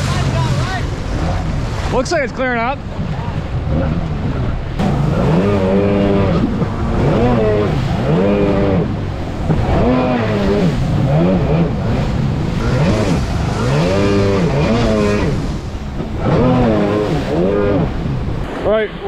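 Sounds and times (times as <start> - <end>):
jet ski engine revving: 0.0 - 19.0
rushing noise: 0.0 - 19.0.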